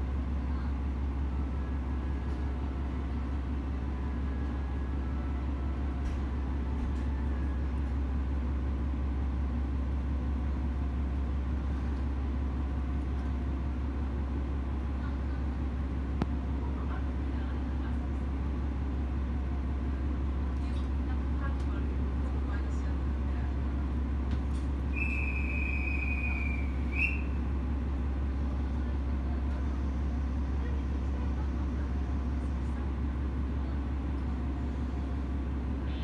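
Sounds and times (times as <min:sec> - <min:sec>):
diesel railcar engine hum: 0:00.0 - 0:36.0.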